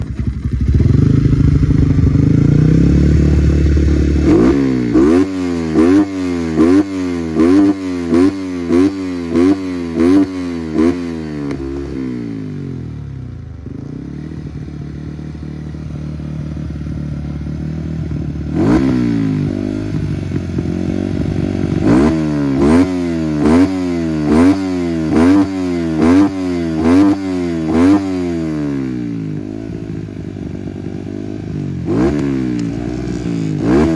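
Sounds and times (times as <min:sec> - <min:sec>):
motorcycle engine idling: 0:00.0 - 0:26.1, 0:28.8 - 0:33.9
motorcycle engine revving: 0:00.0 - 0:33.9.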